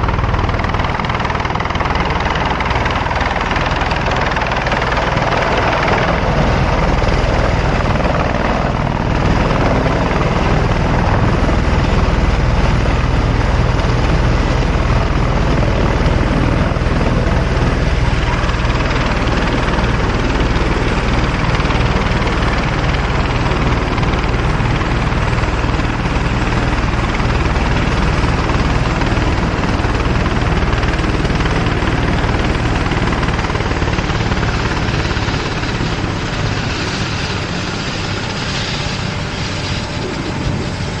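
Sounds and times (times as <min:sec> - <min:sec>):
helicopter rotor and engine: 0:00.0 - 0:41.0.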